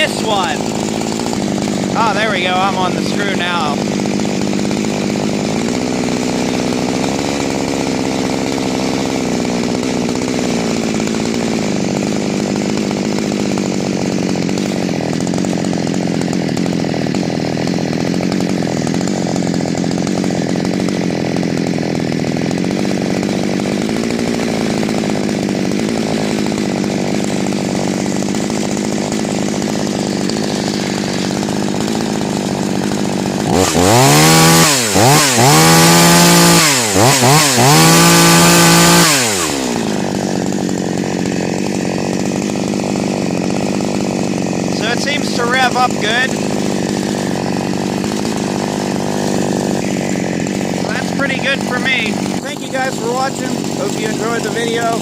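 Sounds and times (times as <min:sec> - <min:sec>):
chainsaw engine idling: 0:00.0 - 0:55.0.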